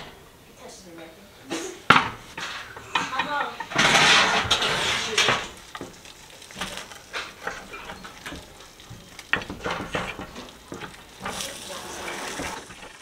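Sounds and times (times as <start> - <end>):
pizza cutter crunching crust: 2.4 - 13.0.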